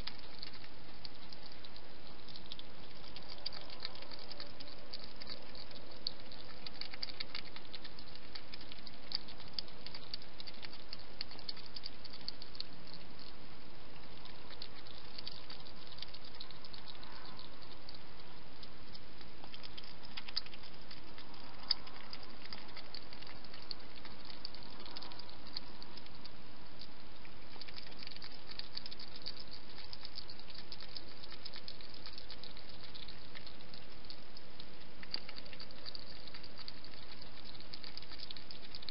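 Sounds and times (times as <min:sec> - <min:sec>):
hedgehog crunching food: 0:00.0 - 0:38.9
steady background hiss: 0:00.0 - 0:38.9.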